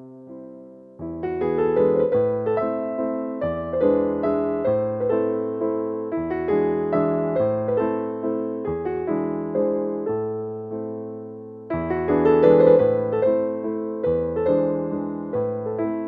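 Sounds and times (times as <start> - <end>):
gentle electric piano music: 0.0 - 16.0.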